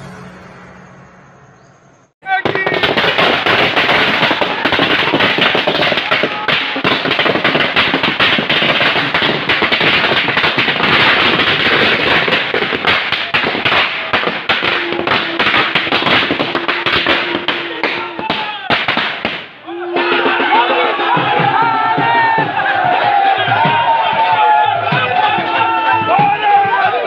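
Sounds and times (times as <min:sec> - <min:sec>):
firecrackers crackling: 0:02.2 - 0:27.0.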